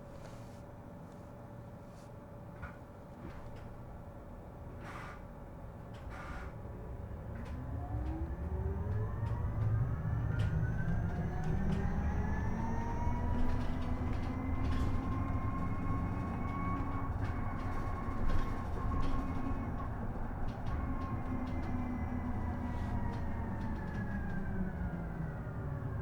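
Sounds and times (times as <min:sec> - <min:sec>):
rumble of tyres on road: 0:02.5 - 0:26.0
electric bus motor whining: 0:04.8 - 0:26.0.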